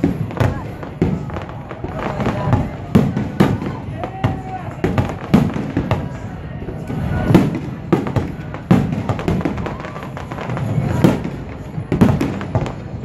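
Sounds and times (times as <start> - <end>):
fireworks bursting bangs: 0.0 - 13.0.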